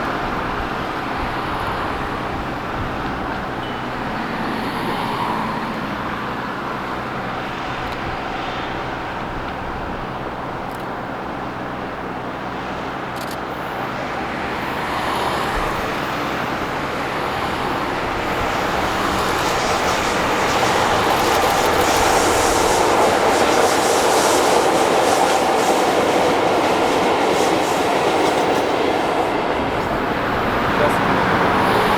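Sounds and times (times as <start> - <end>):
train wheels clattering on rails: 0.0 - 31.9.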